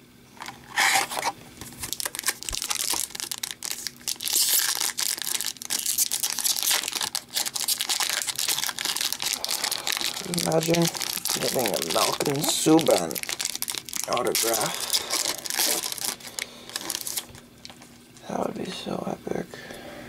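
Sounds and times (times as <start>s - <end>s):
foil wrapper crinkling: 0.7s - 18.2s.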